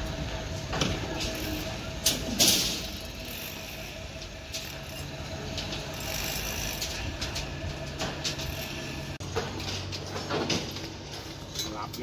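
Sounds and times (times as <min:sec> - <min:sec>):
constant whine: 0:00.0 - 0:12.0
site machinery engine hum: 0:00.0 - 0:12.0
metallic clicks and scrapes of wire: 0:01.2 - 0:12.0.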